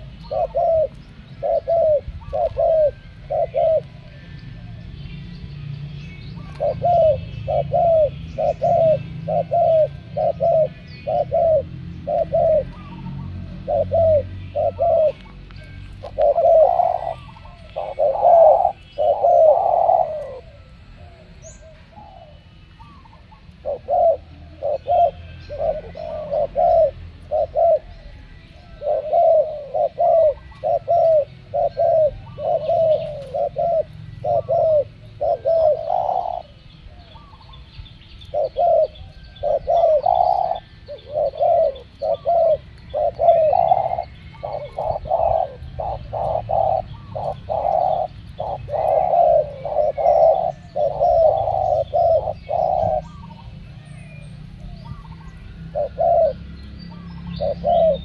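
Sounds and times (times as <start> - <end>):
doves cooing: 0.0 - 58.0
small birds chirping: 0.0 - 58.0.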